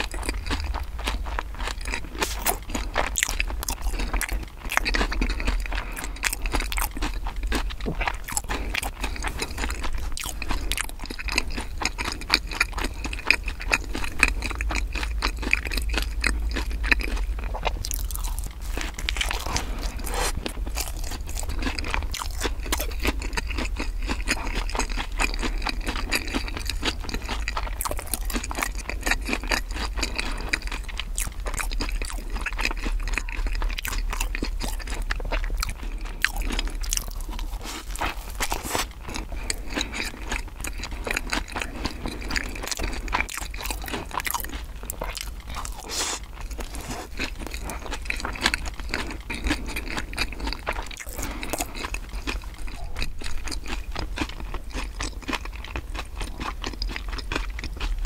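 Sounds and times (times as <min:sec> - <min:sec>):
biting into bread: 0:00.0 - 0:58.0
chewing and crunching bread: 0:00.0 - 0:58.0
wet mouth sounds: 0:01.6 - 0:58.0.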